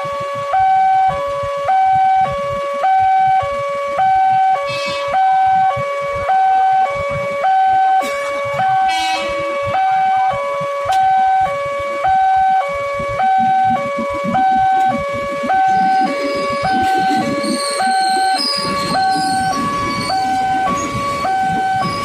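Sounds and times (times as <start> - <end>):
low train rumble: 0.0 - 22.0.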